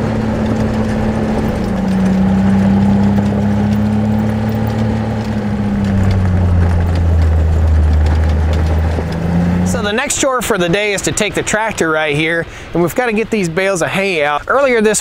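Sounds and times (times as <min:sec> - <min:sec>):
tyres on gravel: 0:00.0 - 0:15.0
utility vehicle engine running: 0:00.0 - 0:15.0.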